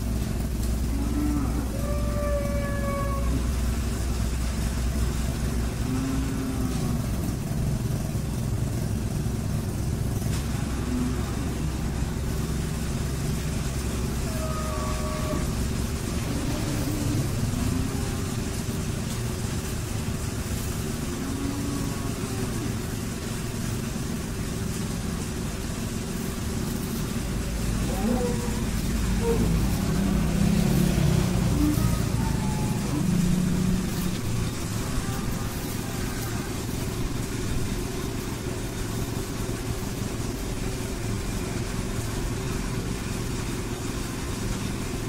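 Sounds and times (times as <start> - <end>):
vehicle engines rumbling: 0.0 - 45.0.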